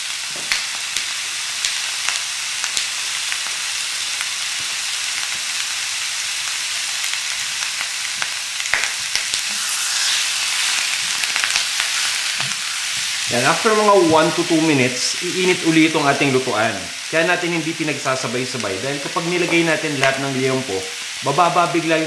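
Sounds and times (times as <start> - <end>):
pork sizzling in a wok: 0.0 - 22.0.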